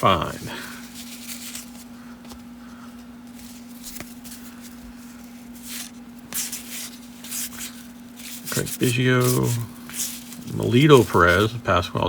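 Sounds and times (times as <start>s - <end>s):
papery swishes of cards: 0.0s - 11.6s
steady low hum: 0.0s - 12.0s.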